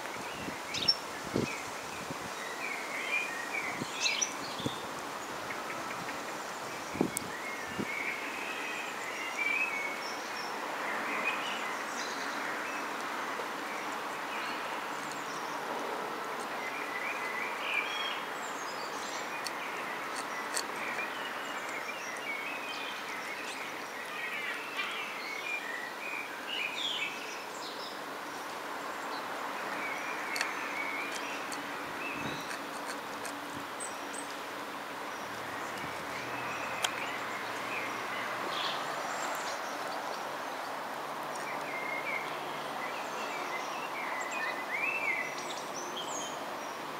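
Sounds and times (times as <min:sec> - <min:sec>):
small birds chirping: 0:00.0 - 0:15.7, 0:16.3 - 0:46.9
outdoor background hiss: 0:00.0 - 0:46.9.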